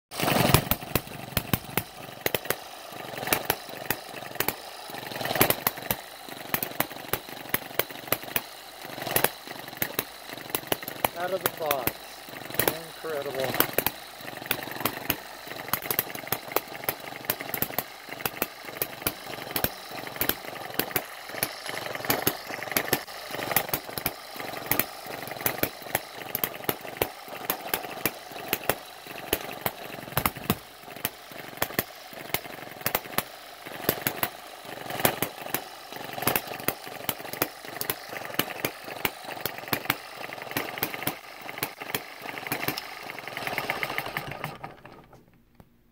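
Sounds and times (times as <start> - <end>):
model engine firing sharp pops: 0.1 - 45.2
mechanical clatter of engine: 0.1 - 45.5.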